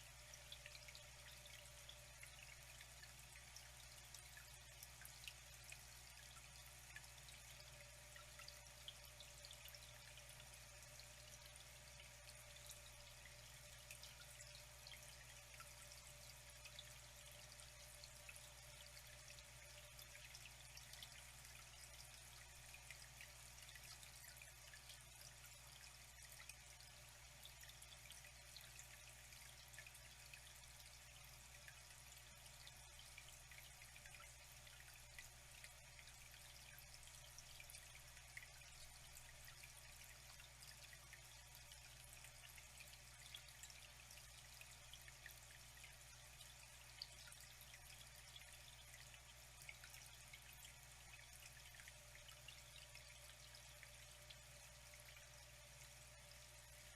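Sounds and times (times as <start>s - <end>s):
low steady hum: 0.0s - 56.9s
small drips and splashes: 0.0s - 56.9s
water flowing faintly: 0.0s - 56.9s.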